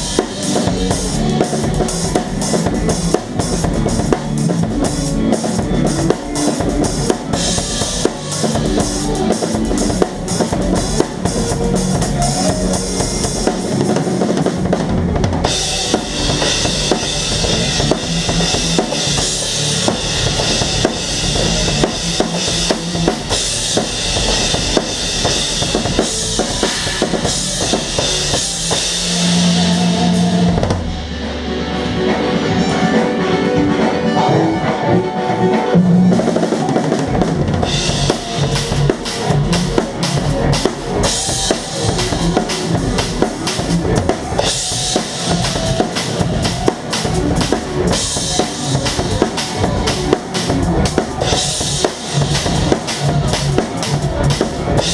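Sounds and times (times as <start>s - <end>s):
live band music: 0.0s - 54.9s.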